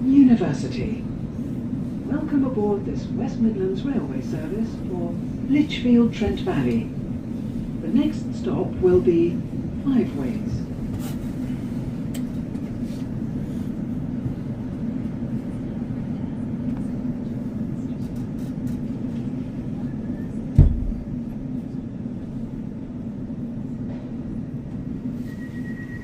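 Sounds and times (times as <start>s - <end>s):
electric train rumble: 0.0s - 26.0s.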